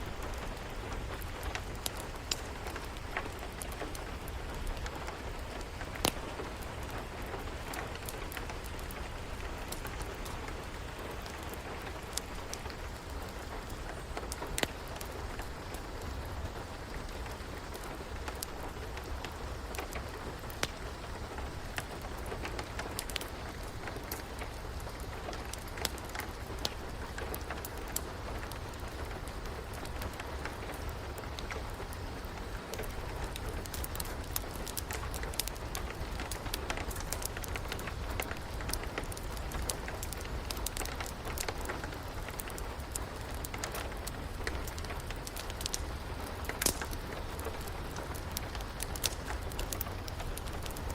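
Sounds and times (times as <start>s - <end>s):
fireplace crackling: 0.0s - 50.9s
steady rain: 0.0s - 50.9s.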